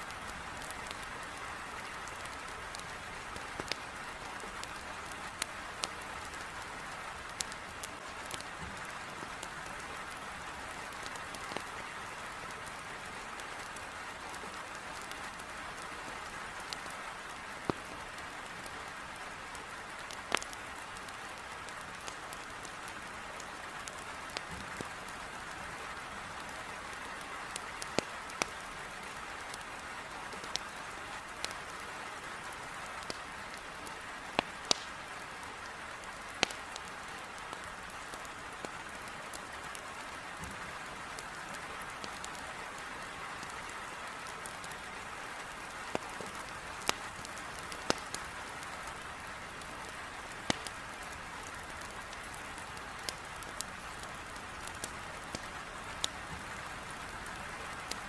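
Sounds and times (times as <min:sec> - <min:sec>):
heavy rain on a window: 0:00.0 - 0:58.0
wood fire crackling: 0:00.0 - 0:58.0.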